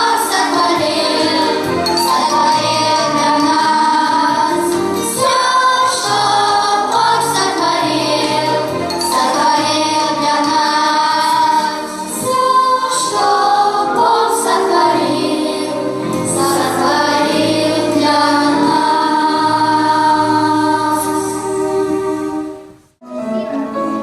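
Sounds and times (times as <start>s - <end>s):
children's choir singing a hymn: 0.0s - 22.8s.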